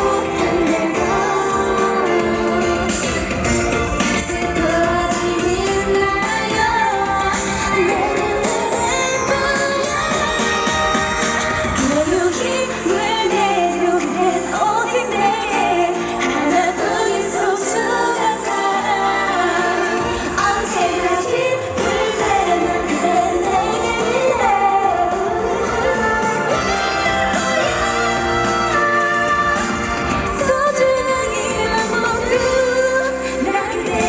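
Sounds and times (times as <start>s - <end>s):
women singing over pop music: 0.0s - 34.0s.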